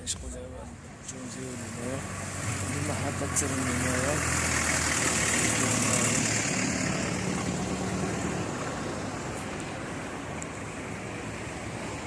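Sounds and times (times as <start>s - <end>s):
passing vehicle engine humming: 0.0s - 12.0s.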